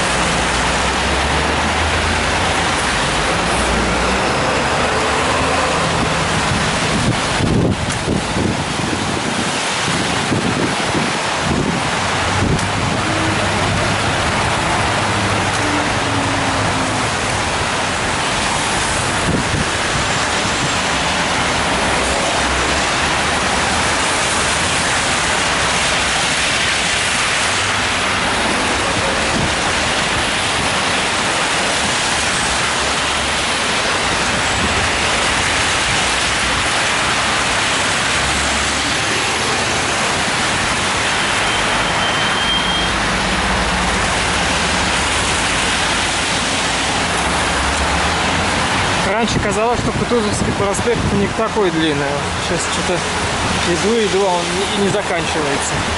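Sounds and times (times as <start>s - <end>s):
falling rain: 0.0s - 55.9s
heavy traffic rumble: 0.0s - 55.9s
tyres swishing on wet asphalt: 0.0s - 55.9s.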